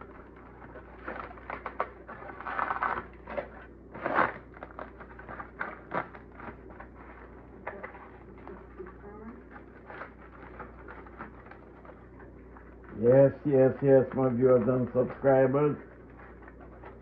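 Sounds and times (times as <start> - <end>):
aluminium foil crinkling: 0.0 - 13.0, 14.2 - 17.0.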